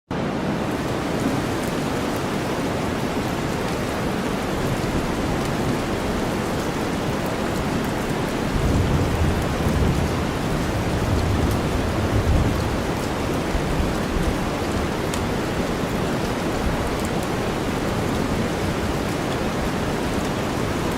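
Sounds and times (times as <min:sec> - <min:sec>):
heavy rain: 0:00.1 - 0:20.9.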